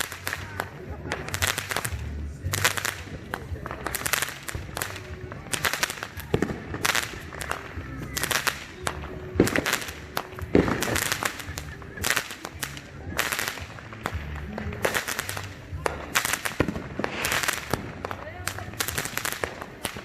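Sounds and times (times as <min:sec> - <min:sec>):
fireworks cracking and popping: 0:00.0 - 0:20.0.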